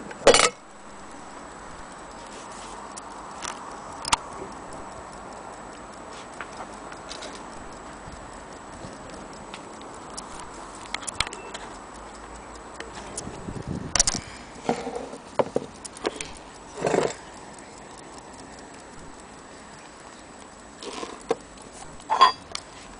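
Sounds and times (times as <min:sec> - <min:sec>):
mechanical clocks ticking: 0:00.0 - 0:22.9.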